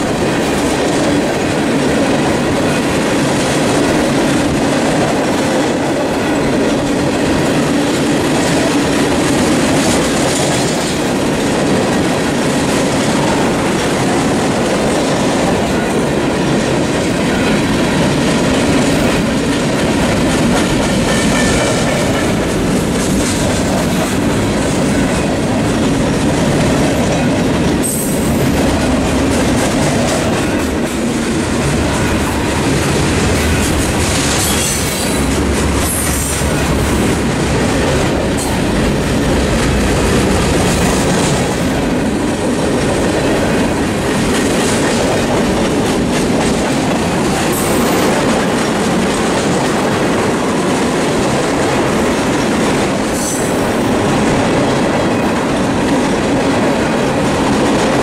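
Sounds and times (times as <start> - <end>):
clickety-clack over rail joints: 0.0 - 58.0
freight train wheels rumbling: 0.0 - 58.0.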